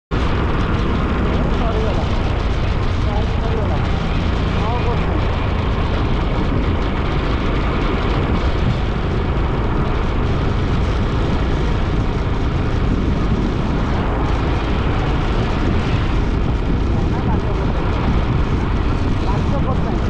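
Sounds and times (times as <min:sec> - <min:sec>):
motorbike road and engine noise: 0:00.1 - 0:20.0
wind buffeting microphone: 0:00.1 - 0:20.0.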